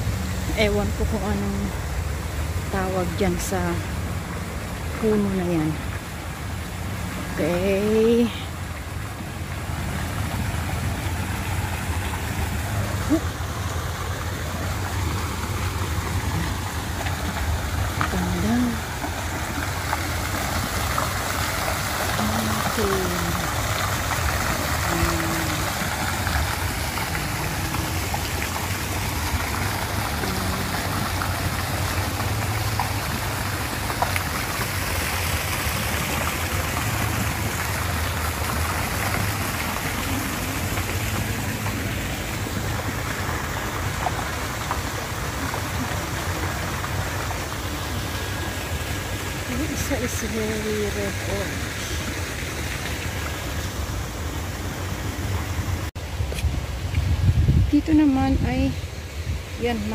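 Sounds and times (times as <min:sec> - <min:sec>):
fountain water splashing into basin: 0:00.0 - 0:59.9.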